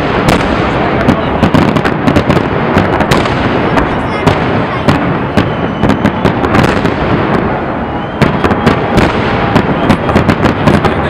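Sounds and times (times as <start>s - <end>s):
firework cracks and pops: 0.0s - 11.0s.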